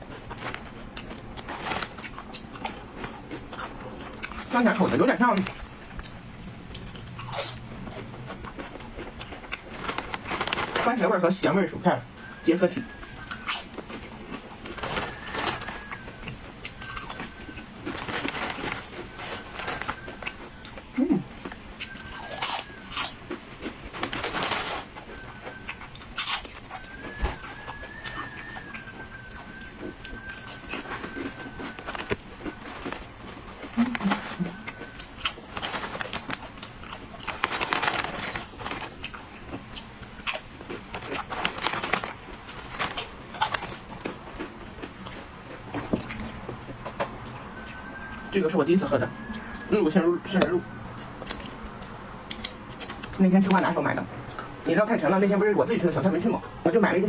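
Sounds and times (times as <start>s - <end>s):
rustling: 0.0s - 49.7s
chewing crisp potato chips: 0.0s - 57.0s.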